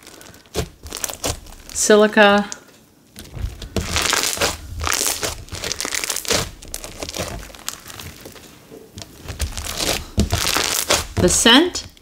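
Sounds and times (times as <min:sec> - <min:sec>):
crackling crunch of slime beads: 0:00.0 - 0:12.0.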